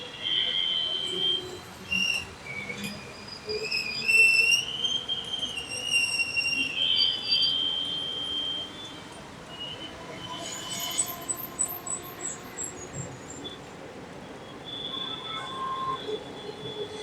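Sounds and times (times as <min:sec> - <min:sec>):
high-pitched whistling squeal: 0:00.0 - 0:13.6, 0:14.4 - 0:17.0.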